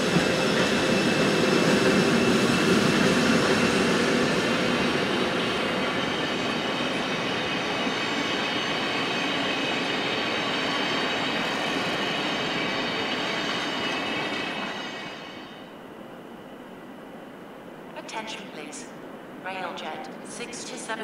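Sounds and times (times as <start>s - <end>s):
train coaches rumbling on rails: 0.0s - 21.0s.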